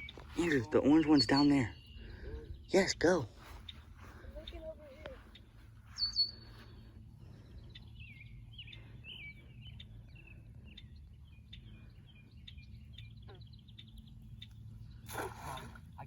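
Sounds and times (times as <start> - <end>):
low outdoor rumble: 0.0 - 16.0
songbirds chirping: 0.0 - 16.0.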